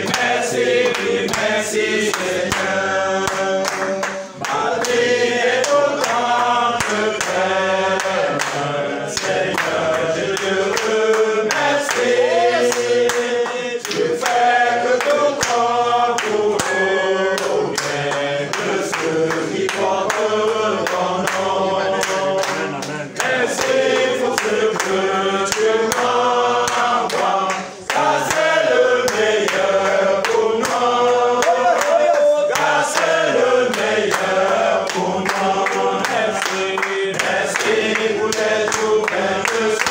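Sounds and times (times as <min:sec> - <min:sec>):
hand clapping: 0:00.0 - 0:39.9
men singing together: 0:00.0 - 0:39.9.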